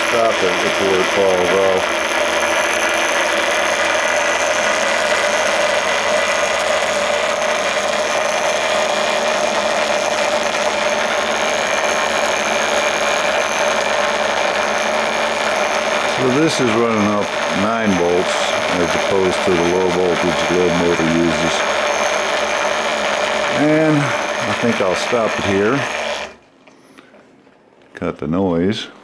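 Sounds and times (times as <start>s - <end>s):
pulse motor buzzing: 0.0s - 26.4s
thin high whine: 0.0s - 27.1s.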